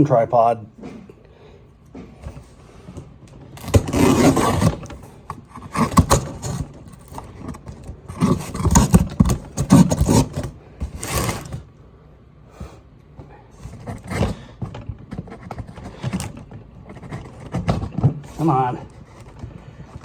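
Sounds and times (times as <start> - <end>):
objects scraping and knocking: 1.9 - 11.7, 13.6 - 20.0.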